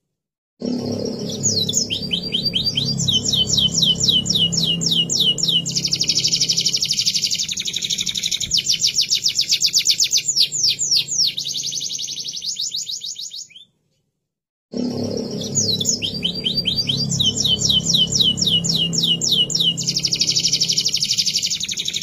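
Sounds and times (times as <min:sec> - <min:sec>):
canary singing trills: 0:00.7 - 0:13.7, 0:14.8 - 0:22.0.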